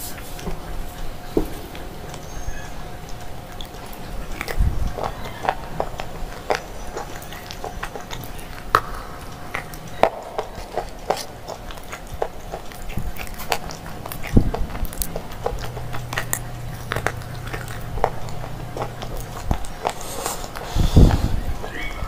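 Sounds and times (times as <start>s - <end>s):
biting and chewing crunchy slate: 0.0s - 22.0s.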